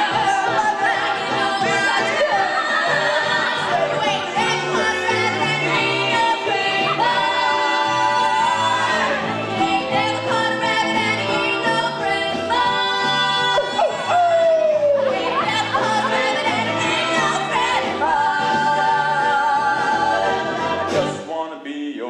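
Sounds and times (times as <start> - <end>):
band playing: 0.0 - 21.5
voices singing in harmony: 0.0 - 21.5.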